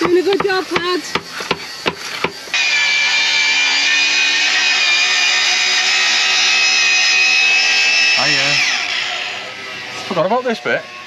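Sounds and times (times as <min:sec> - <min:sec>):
power tool whining: 0:00.0 - 0:11.0.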